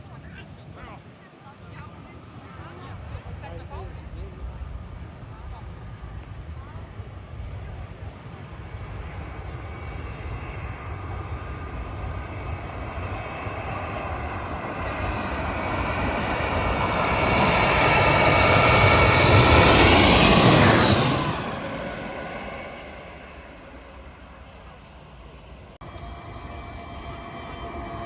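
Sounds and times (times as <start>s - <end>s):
jet airliner passing overhead: 0.0s - 28.0s.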